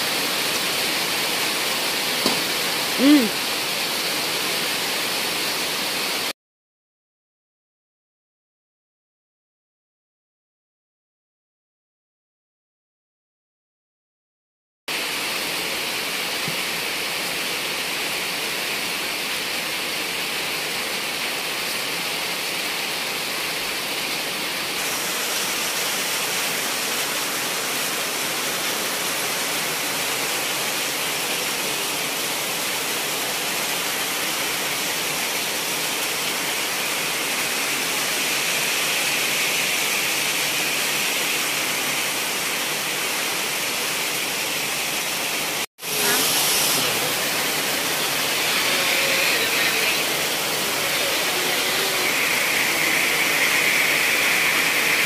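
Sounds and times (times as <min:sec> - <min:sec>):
heavy rain on vegetation: 0:00.0 - 0:06.3, 0:14.9 - 0:55.0.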